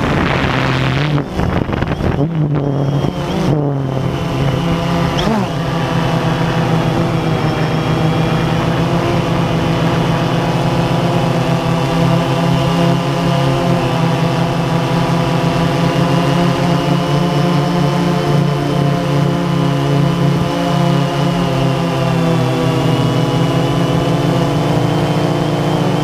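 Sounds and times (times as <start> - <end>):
drone propellers humming: 0.0 - 26.0.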